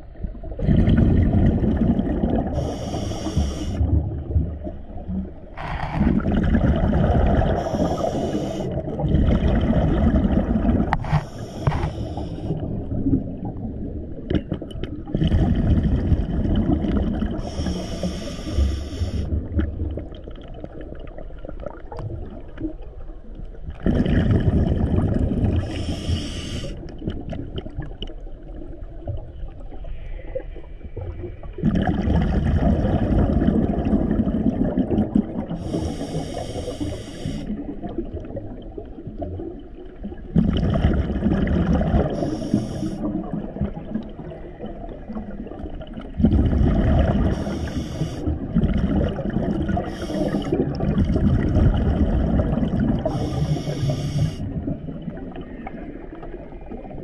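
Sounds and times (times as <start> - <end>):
underwater exhaled bubbles rumbling: 0.0 - 57.0.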